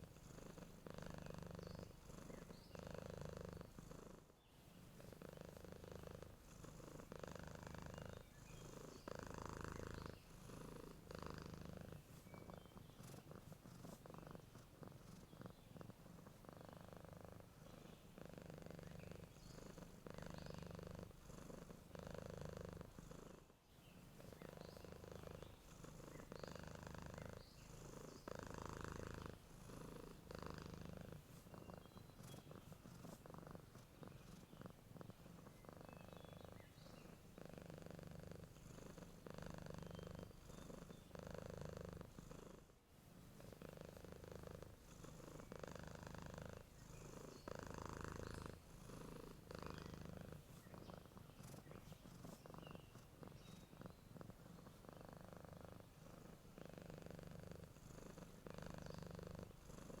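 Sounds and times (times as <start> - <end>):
cat purring: 0.0 - 60.0
faint bird chirps: 0.3 - 3.7, 4.4 - 21.6, 23.6 - 37.6, 38.3 - 42.0, 45.1 - 55.2, 58.0 - 60.0.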